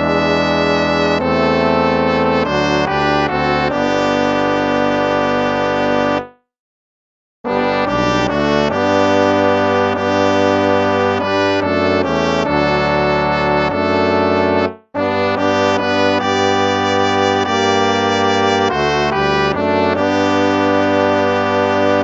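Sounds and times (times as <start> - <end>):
instrumental hymn music: 0.0 - 6.5, 7.5 - 22.0.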